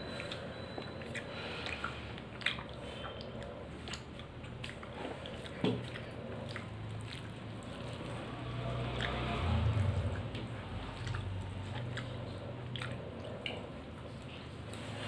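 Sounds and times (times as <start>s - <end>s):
rice squishing by hand: 0.0s - 15.0s.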